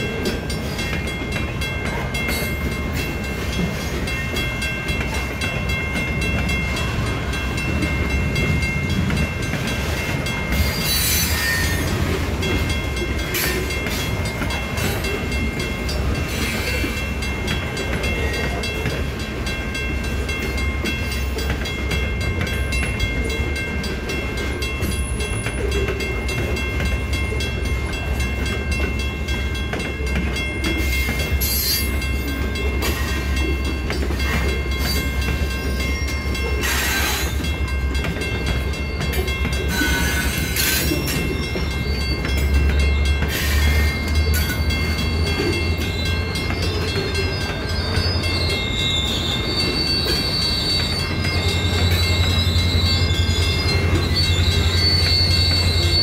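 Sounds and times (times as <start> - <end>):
low train rumble: 0.0 - 56.0
sharp clanks from train cars: 0.0 - 56.0
train wheels clacking over rail joints: 0.0 - 56.0.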